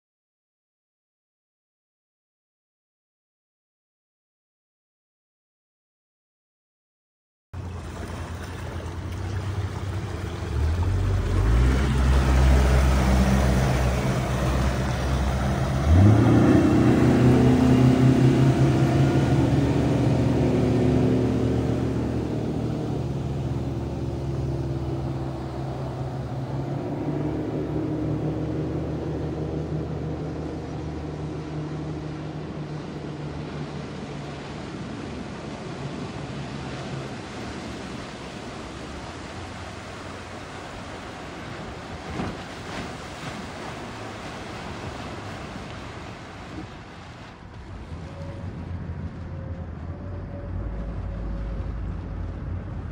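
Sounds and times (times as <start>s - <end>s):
outboard motor accelerating: 7.6s - 52.9s.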